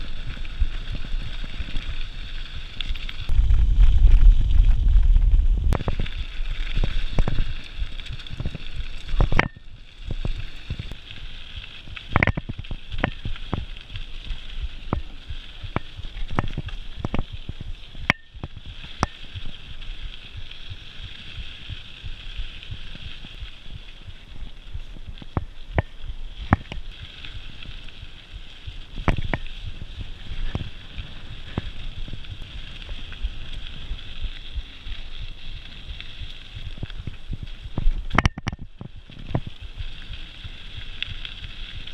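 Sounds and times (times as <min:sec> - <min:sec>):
bike tyre noise on dirt: 0:00.0 - 0:41.9
wind rumbling on microphone: 0:00.0 - 0:41.9.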